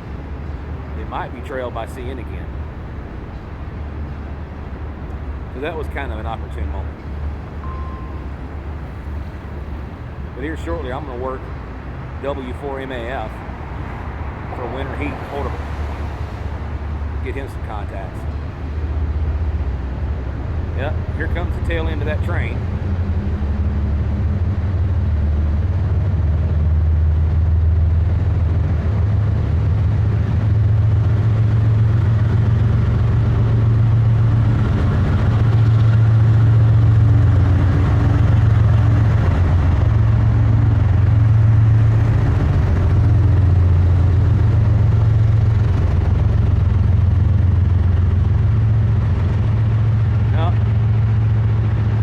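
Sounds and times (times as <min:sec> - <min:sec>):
diesel locomotive engine drone: 0:00.0 - 0:52.0.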